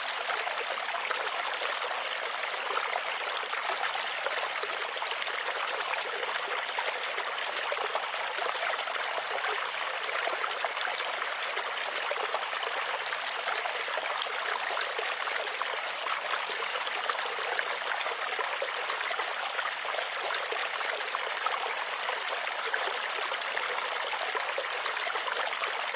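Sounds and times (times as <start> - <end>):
stream water trickling: 0.0 - 25.9.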